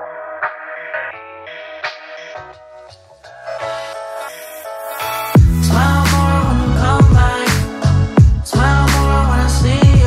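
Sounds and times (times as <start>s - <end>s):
background music with light beats: 0.0s - 10.0s.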